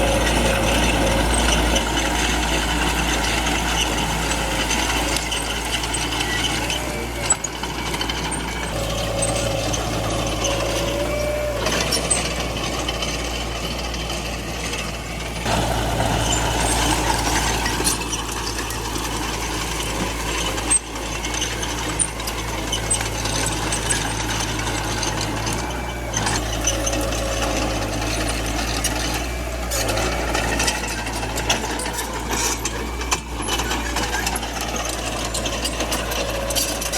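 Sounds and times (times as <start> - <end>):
bulldozer diesel engine: 0.0 - 36.9.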